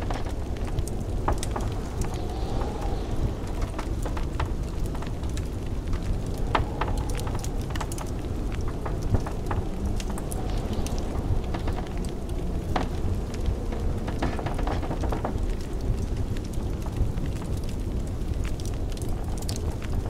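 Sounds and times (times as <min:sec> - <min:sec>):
blizzard wind rumbling: 0:00.0 - 0:20.0
wood fire crackling and popping: 0:00.0 - 0:20.0.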